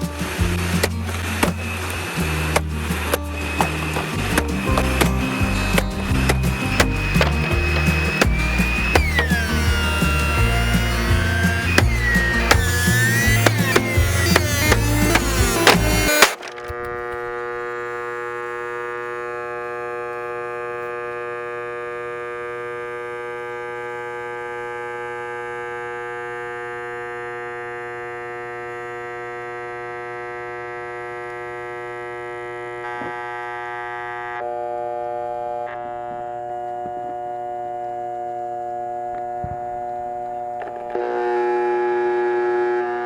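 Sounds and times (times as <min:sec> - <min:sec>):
electronic drone: 0:00.0 - 0:43.0.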